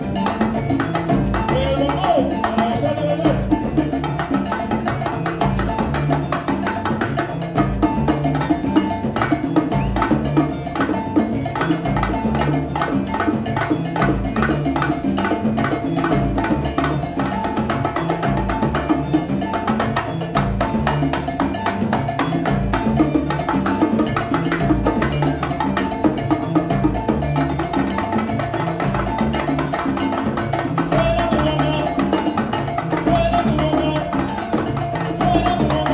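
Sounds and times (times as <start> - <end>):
bass line: 0.0 - 35.9
bongos: 0.0 - 35.9
cowbell: 0.0 - 35.9
salsa band playing: 0.0 - 35.9.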